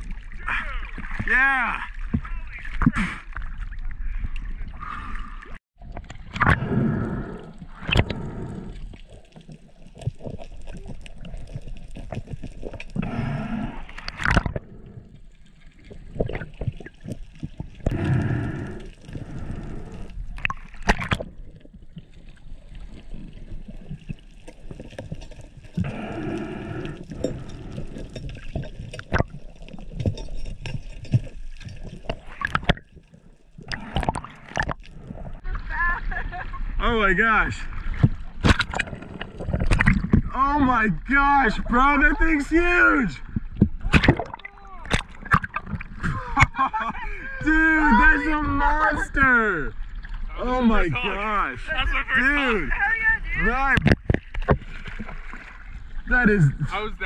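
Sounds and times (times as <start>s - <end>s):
sea water gurgling and sloshing: 0.0s - 57.0s.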